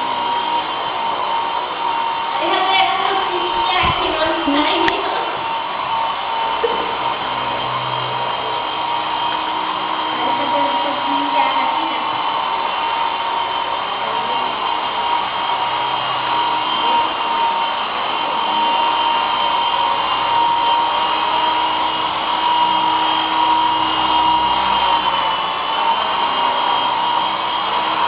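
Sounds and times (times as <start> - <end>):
toy helicopter rotor whine: 0.0 - 28.0.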